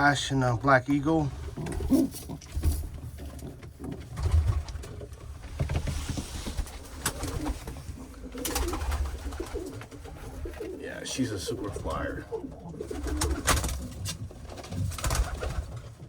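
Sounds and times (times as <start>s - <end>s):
pigeons cooing: 1.3s - 5.2s, 6.6s - 16.0s.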